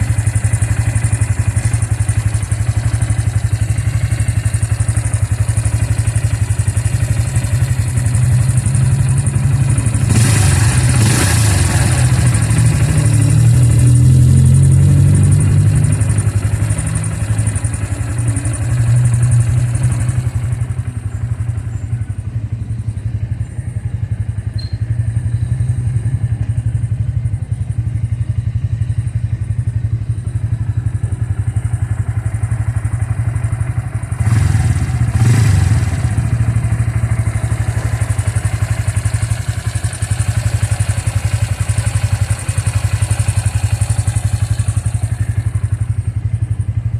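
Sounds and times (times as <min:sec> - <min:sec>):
motorcycle engine revving and idling: 0:00.0 - 0:46.9.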